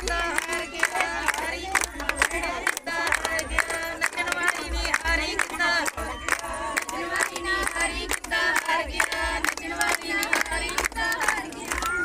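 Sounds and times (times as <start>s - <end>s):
rhythmic hand clapping: 0.0s - 12.0s
women singing folk songs: 0.0s - 12.0s.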